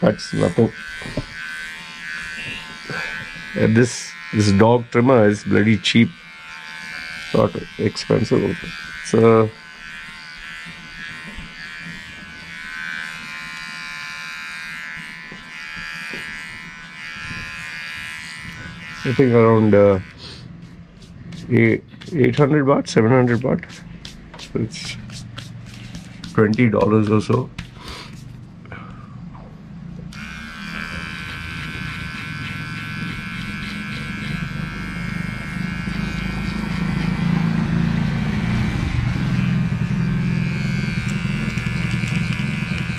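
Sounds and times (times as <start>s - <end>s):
electric clipper buzzing: 0.0s - 28.2s, 30.0s - 42.9s.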